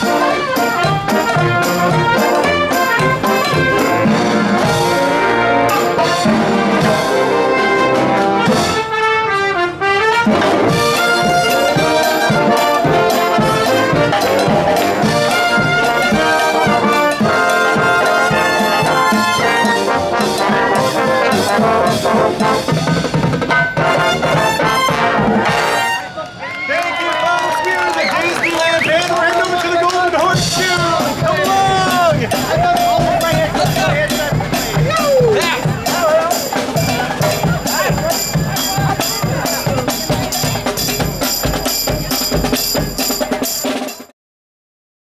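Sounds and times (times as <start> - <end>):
brass band playing: 0.0 - 26.5, 28.4 - 44.1.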